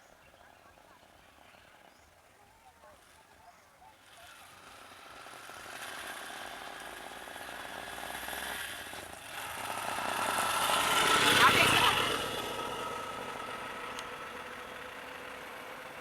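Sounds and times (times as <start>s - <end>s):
small engine rattling: 0.0s - 16.0s.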